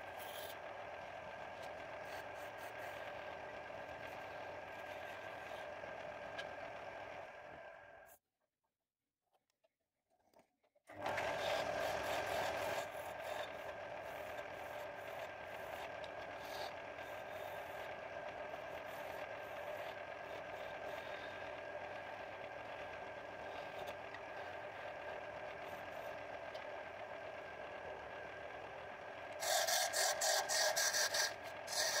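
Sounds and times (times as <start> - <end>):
chisel cutting spinning wood: 0.0 - 6.7, 11.3 - 32.0
wood lathe whining: 0.0 - 7.6, 10.9 - 32.0.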